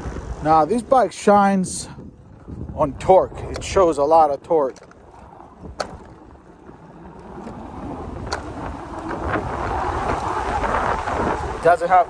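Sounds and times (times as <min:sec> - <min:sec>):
tyres rumbling on dirt: 0:00.0 - 0:12.0
wind buffeting microphone: 0:00.0 - 0:12.0.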